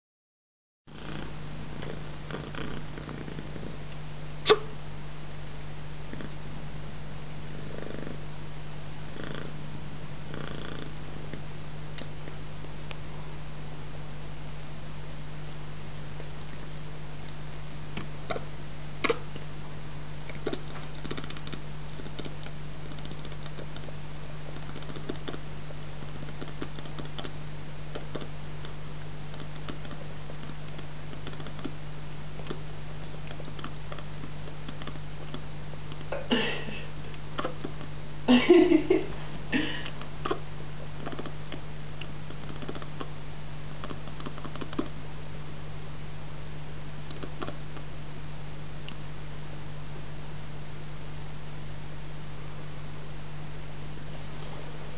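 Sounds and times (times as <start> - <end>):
steady hiss and low hum: 0.9 - 54.9.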